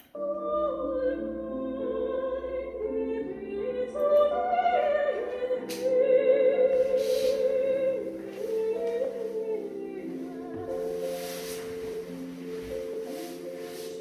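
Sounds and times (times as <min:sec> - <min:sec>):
sustained musical accompaniment: 0:00.0 - 0:14.0
operatic voice singing: 0:00.1 - 0:14.0.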